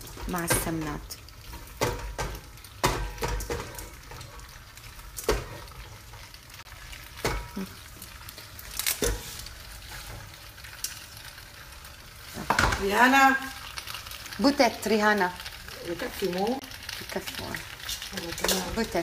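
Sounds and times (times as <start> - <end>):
oil sizzling in a pot: 0.0 - 19.0.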